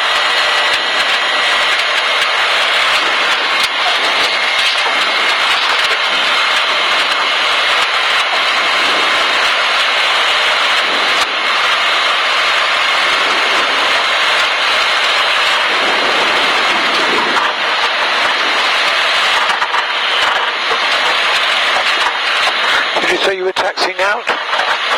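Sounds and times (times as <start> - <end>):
propeller aircraft engine drone: 0.0 - 24.9.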